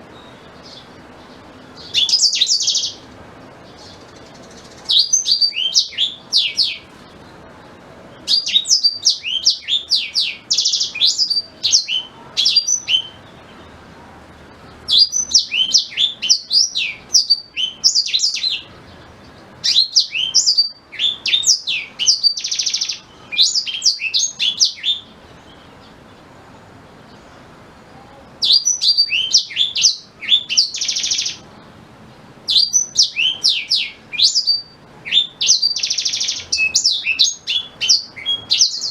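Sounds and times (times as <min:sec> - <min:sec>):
bird twittering song: 0:00.0 - 0:14.0, 0:14.6 - 0:31.7, 0:32.5 - 0:38.9.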